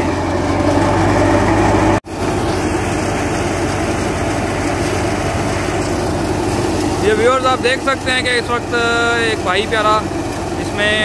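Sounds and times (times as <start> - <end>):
low engine hum: 0.0 - 11.0
thresher mechanical drone: 0.0 - 11.0.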